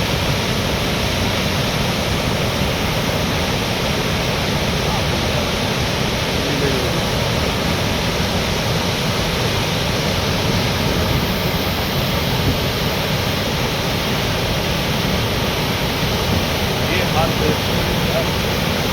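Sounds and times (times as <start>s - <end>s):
running water rushing: 0.0s - 18.9s.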